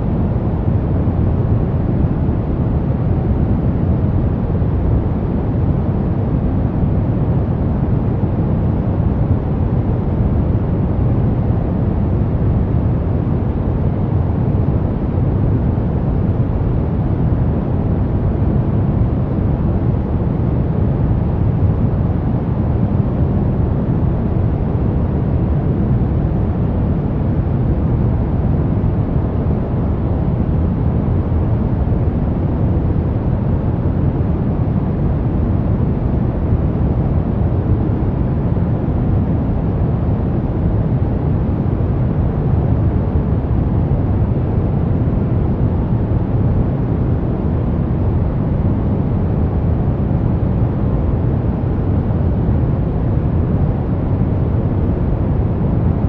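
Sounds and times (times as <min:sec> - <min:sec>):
deep rumbling brown noise: 0:00.0 - 0:56.0.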